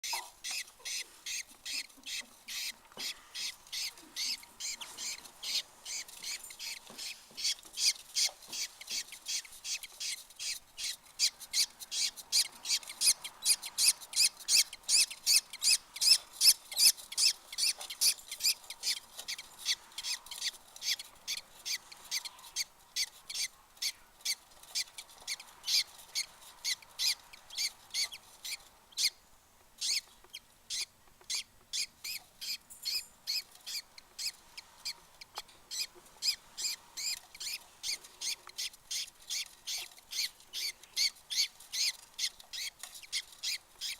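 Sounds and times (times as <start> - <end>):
chicks cheeping: 0.0 - 29.2, 29.8 - 43.9.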